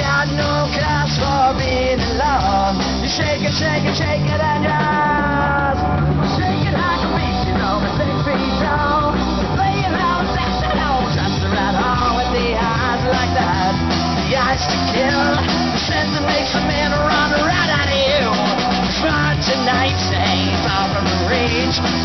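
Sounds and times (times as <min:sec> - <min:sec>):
bass guitar: 0:00.0 - 0:22.0
drum kit: 0:00.0 - 0:22.0
electric guitars: 0:00.0 - 0:22.0
person singing: 0:00.0 - 0:22.0.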